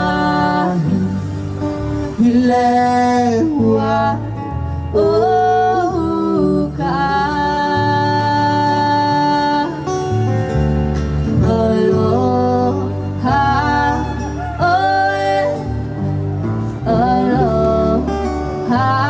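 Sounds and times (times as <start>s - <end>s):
person singing long notes: 0.0s - 10.4s, 11.2s - 19.0s
acoustic guitar: 0.0s - 19.0s
bass line: 0.0s - 19.0s.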